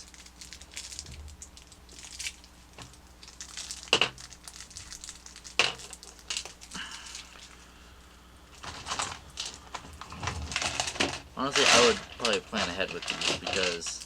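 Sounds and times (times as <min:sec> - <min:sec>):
plastic packaging crinkling: 0:00.0 - 0:07.6, 0:08.5 - 0:14.0.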